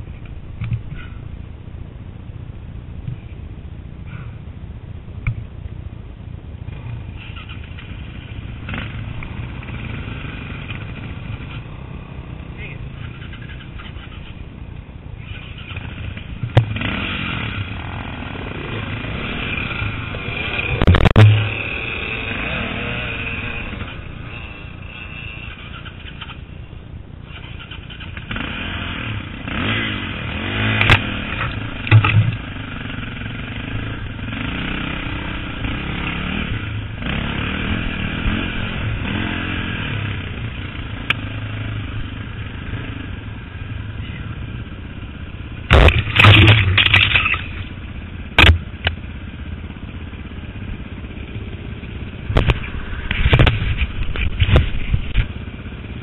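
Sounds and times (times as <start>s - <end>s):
dirt bike engine revving: 6.7s - 14.3s, 15.2s - 26.4s, 27.3s - 56.0s.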